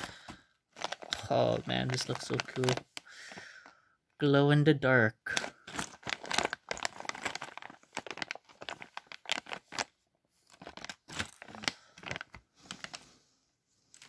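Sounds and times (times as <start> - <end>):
plastic bag crinkling: 0.0 - 3.7, 5.3 - 13.1.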